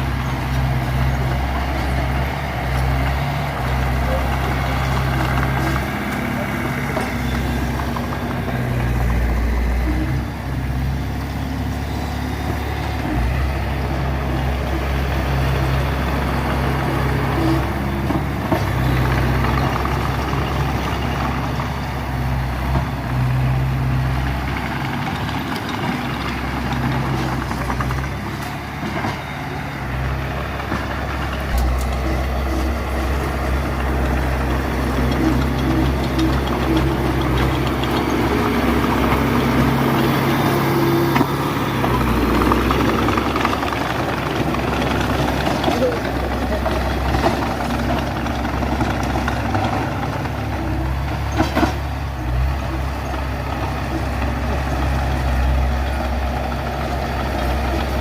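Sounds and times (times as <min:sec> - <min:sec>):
heavy diesel engines working: 0:00.0 - 0:58.0.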